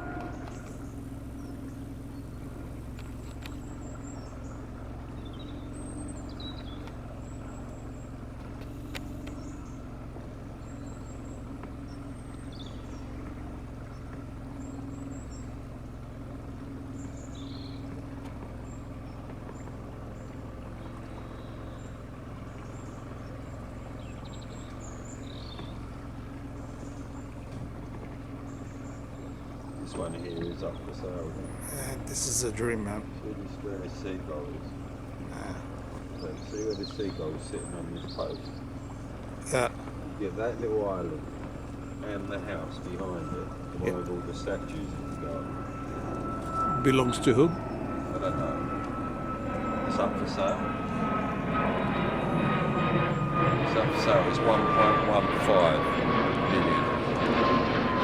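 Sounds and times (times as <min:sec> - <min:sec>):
engine drone: 0:00.0 - 0:58.0.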